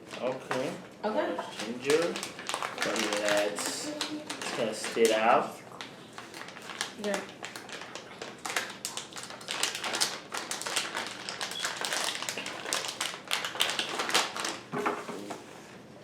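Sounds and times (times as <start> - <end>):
plastic pouch crinkling: 1.5 - 14.7.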